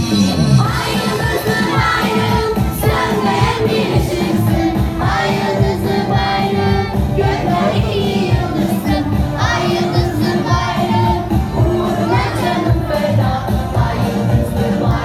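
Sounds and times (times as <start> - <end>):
children singing: 0.6 - 15.0
steady drum beat: 0.7 - 15.0.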